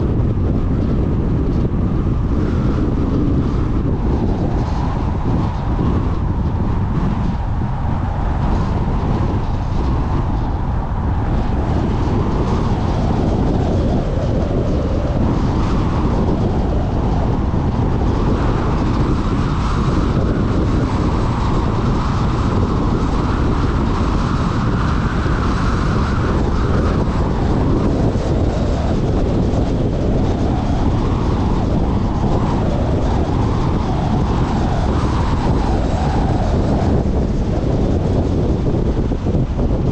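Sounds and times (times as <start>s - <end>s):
car tyre and wind rumble: 0.0s - 39.9s.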